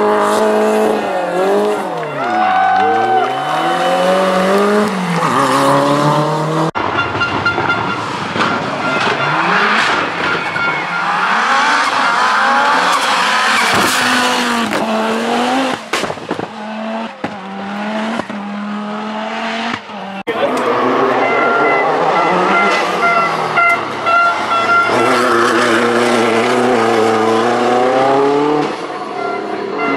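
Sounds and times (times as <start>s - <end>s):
rally car engine at full throttle: 0.0s - 29.9s.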